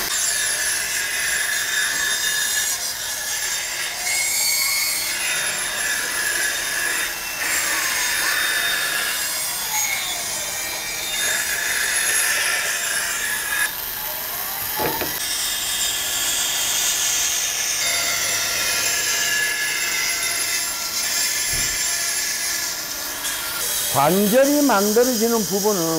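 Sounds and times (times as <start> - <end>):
band saw cutting wood: 0.0 - 25.9
squealing saw tones: 0.0 - 25.9.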